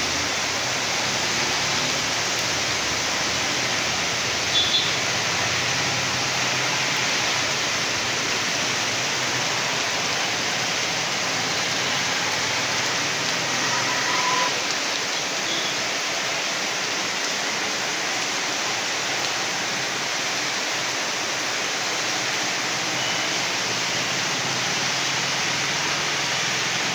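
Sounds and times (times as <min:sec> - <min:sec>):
heavy rain on pavement: 0:00.0 - 0:26.9.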